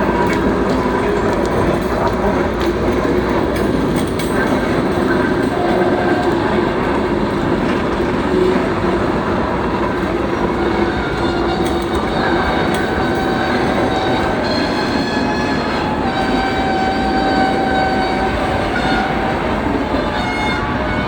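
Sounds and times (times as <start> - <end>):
freight train wheels rumbling: 0.0 - 21.0
rail joint clicks: 0.0 - 21.0.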